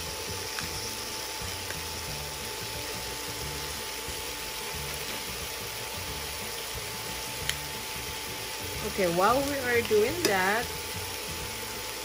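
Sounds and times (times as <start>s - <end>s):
food sizzling in a pan: 0.0s - 12.0s
thin high tone from cooktop: 0.0s - 12.0s.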